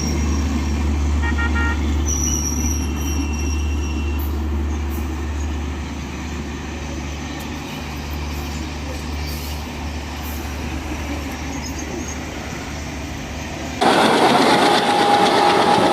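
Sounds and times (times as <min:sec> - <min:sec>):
train rumbling: 0:00.0 - 0:15.9
train rushing past: 0:00.0 - 0:15.9.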